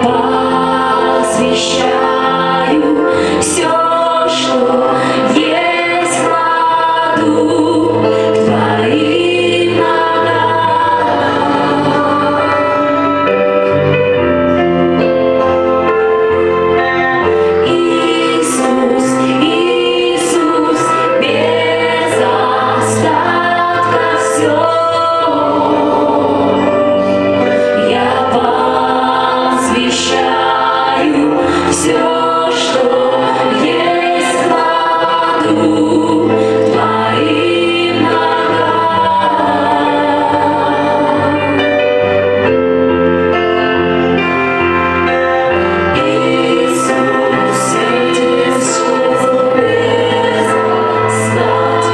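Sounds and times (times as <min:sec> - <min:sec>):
choir singing worship song: 0:00.0 - 0:51.9.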